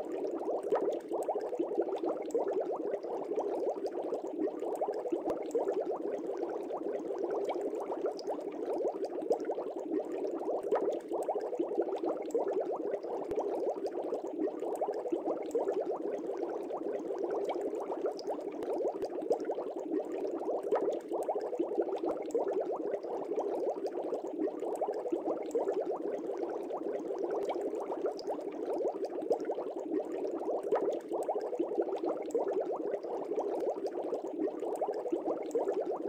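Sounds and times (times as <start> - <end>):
water bubbling: 0.0 - 36.0.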